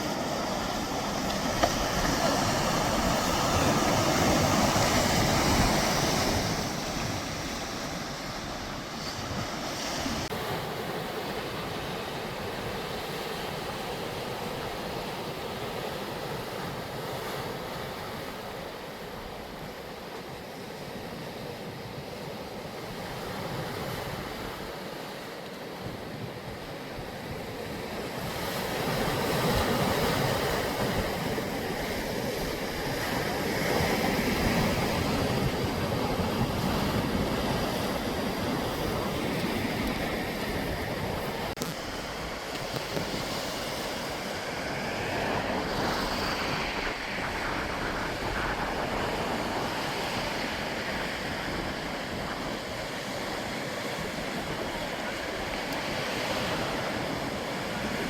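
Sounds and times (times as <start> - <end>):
sea waves breaking on shore: 0.0 - 58.0
wind on microphone: 0.0 - 58.0.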